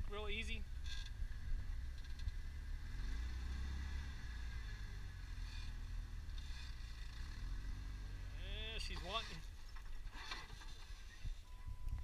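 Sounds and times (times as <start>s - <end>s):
off-road vehicle engine revving: 0.6s - 11.2s.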